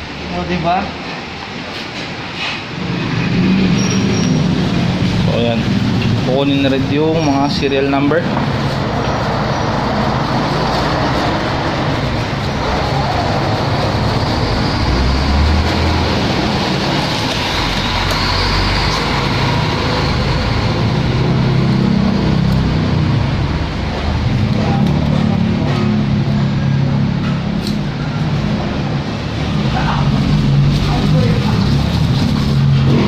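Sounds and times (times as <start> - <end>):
road traffic passing: 0.0 - 33.0
heavy vehicle engine rumble: 1.0 - 33.0.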